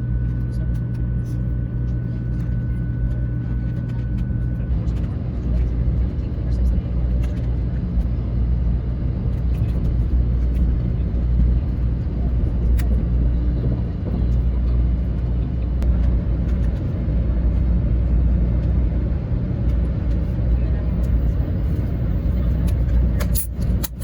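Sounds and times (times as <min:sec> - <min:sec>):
train cabin rumble: 0:00.0 - 0:24.0.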